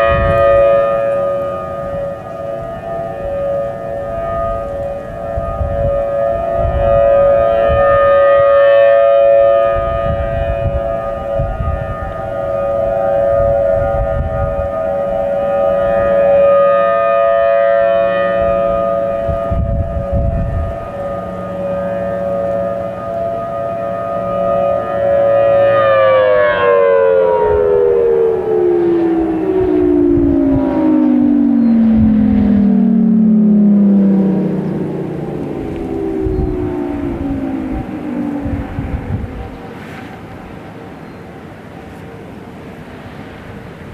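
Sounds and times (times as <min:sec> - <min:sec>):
mechanical warning sirens: 0:00.0 - 0:43.9.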